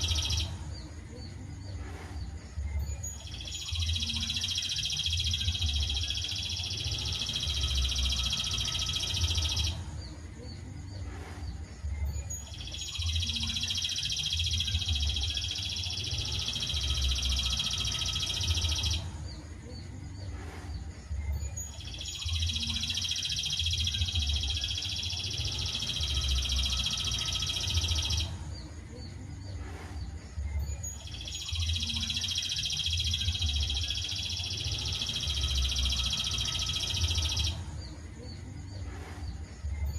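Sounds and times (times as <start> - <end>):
rapid high bird chatter: 0.0 - 39.9.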